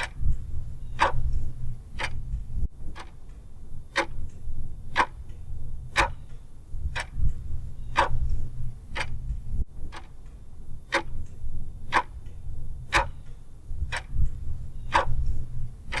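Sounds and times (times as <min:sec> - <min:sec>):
clock ticking: 0:00.0 - 0:16.0
low hum: 0:00.0 - 0:16.0.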